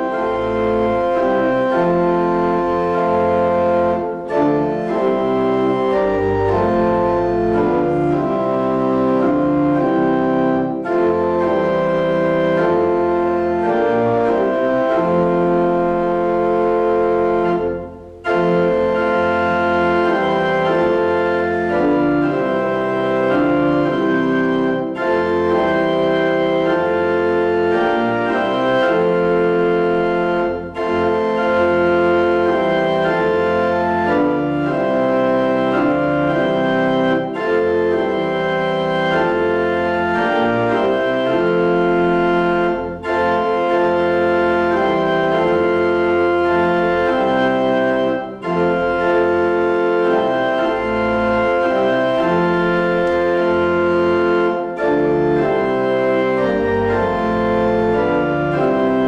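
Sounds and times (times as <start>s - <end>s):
church organ playing hymn: 0.0s - 59.0s.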